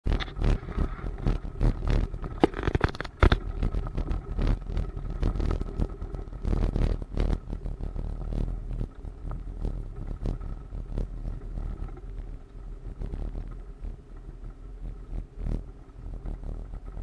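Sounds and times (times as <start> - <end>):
engine and road drone: 0.0 - 17.0
vehicle rattling over gravel: 0.0 - 17.0.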